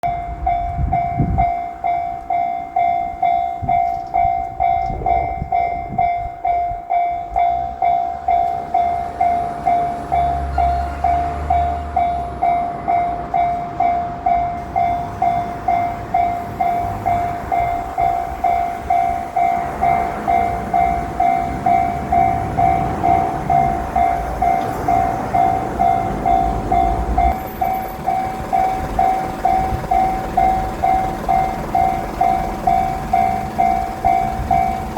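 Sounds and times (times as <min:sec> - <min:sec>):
electric train rumbling: 0:00.0 - 0:34.9
level crossing warning bell: 0:00.0 - 0:34.9.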